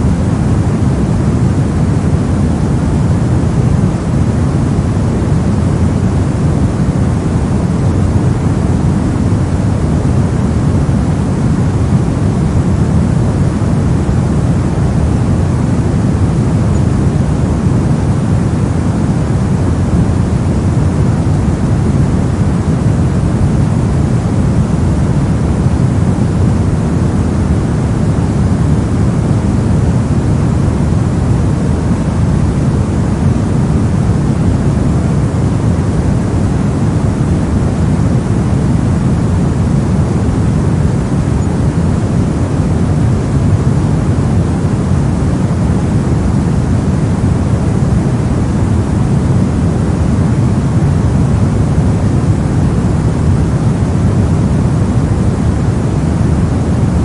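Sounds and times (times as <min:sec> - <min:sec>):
brown noise: 0:00.0 - 0:57.0.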